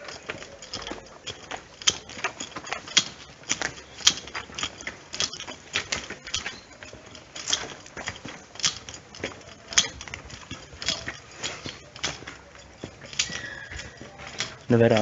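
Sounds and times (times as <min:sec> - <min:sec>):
footsteps on gritty asphalt: 0:00.0 - 0:15.0.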